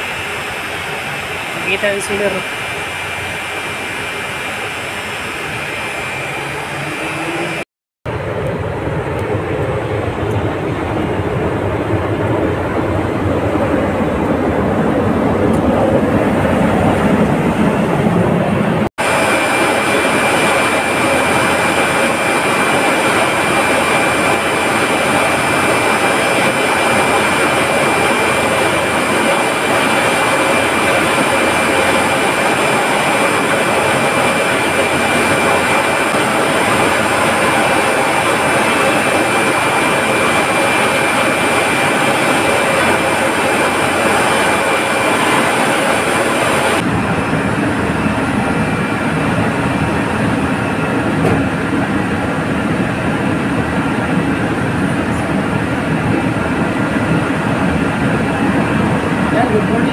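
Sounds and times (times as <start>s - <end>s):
high whine: 0.0s - 59.9s.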